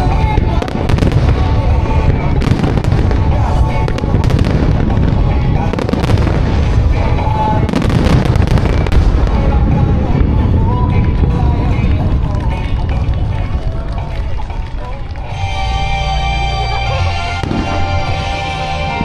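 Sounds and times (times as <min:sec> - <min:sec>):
fireworks booming and crackling: 0:00.0 - 0:15.3, 0:17.4 - 0:19.0
music over loudspeakers: 0:00.0 - 0:19.0.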